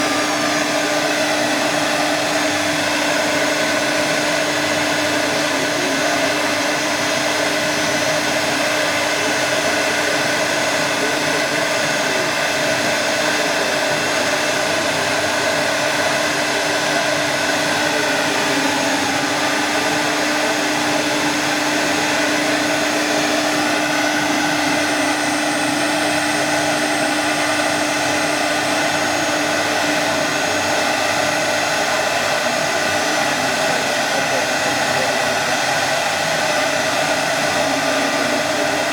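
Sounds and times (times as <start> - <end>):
cnc router running: 0.0 - 38.9.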